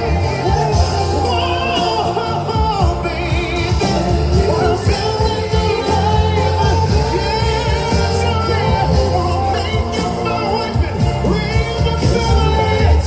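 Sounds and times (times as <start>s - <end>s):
band with bass and drums: 0.0s - 13.0s
singers in harmony: 0.0s - 13.0s.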